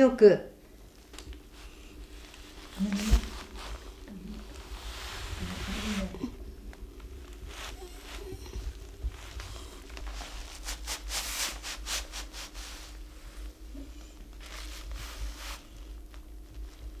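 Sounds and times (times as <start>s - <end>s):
brush swishing across paper: 1.5s - 13.6s, 14.4s - 16.0s.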